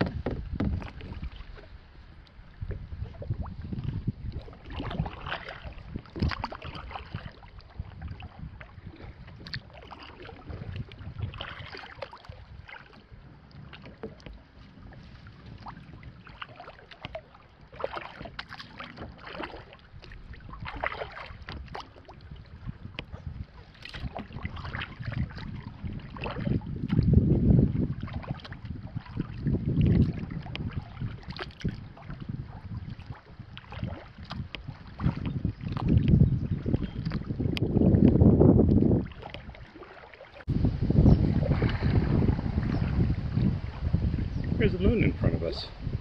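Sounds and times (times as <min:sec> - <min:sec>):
kayak paddle splashing: 0:00.0 - 0:46.0
water sloshing along hull: 0:00.0 - 0:46.0.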